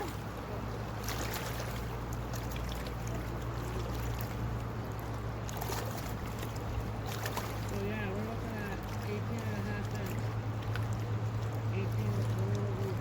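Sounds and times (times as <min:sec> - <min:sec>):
small river flowing: 0:00.0 - 0:13.0.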